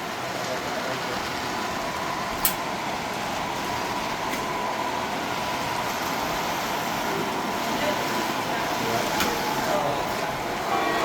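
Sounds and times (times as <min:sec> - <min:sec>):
model train whirring: 0:00.0 - 0:11.0.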